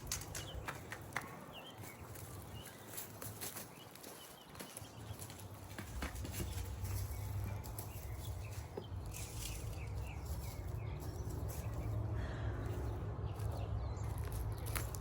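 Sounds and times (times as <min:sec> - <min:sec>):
hands rustling in plants and soil: 0:00.0 - 0:15.0.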